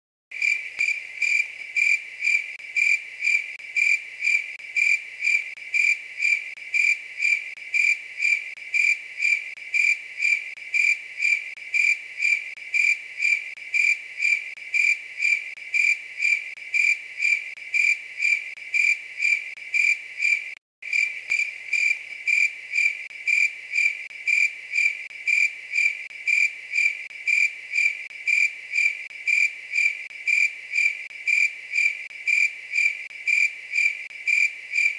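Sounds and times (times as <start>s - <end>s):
insect chirping: 0.3s - 34.9s.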